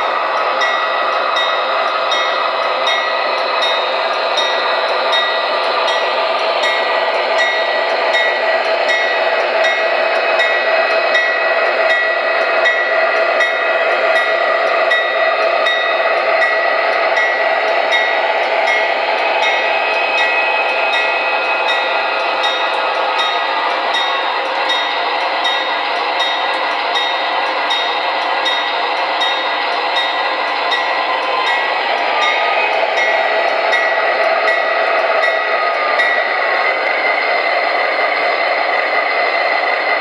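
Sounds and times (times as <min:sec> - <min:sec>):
model train rolling rumble: 0:00.0 - 0:40.0.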